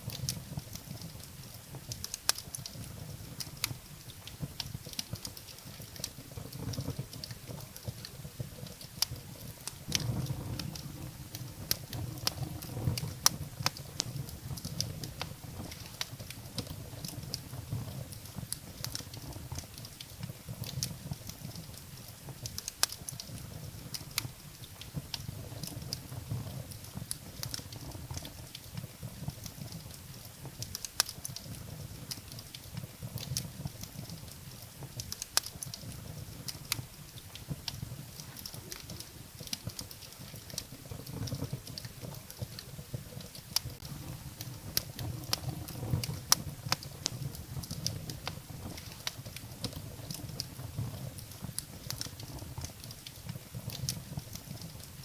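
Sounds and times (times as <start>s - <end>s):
firewood crackling and popping: 0.0s - 55.0s
low rumble of flames: 0.0s - 55.0s.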